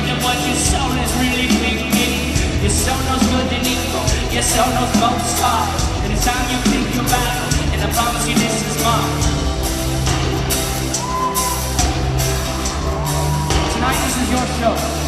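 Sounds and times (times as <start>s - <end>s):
bass: 0.0s - 15.0s
drum beat: 0.0s - 15.0s
person singing: 0.0s - 15.0s.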